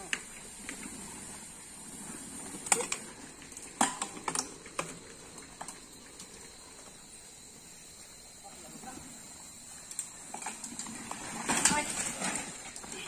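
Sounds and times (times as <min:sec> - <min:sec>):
mountain bikes clattering: 0:00.0 - 0:13.0.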